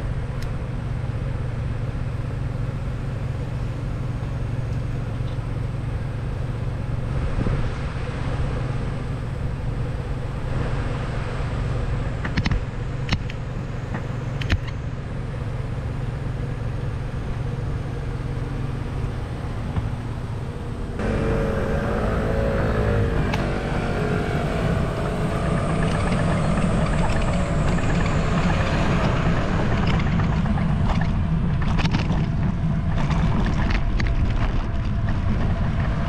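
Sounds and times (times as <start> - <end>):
cars on city road: 0.0 - 36.0
vehicle engine: 0.0 - 36.0.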